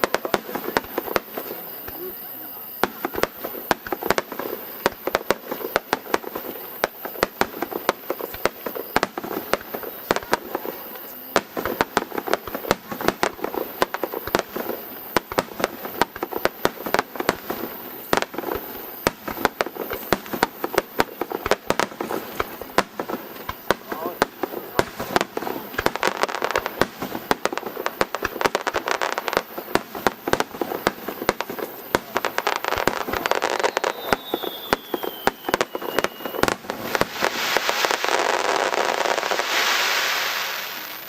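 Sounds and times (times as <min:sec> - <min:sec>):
fireworks bangs and cracks: 0:00.0 - 0:41.0.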